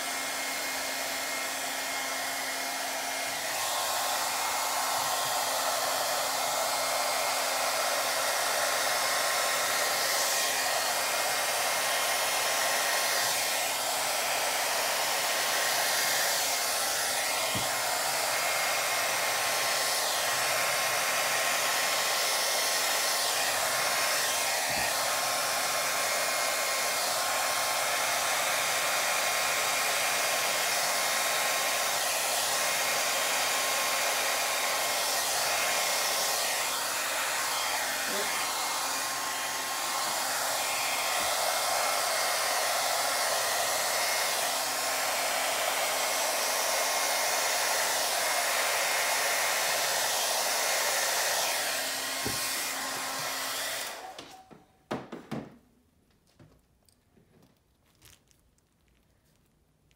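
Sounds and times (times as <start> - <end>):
hair dryer blowing air: 0.0 - 55.6.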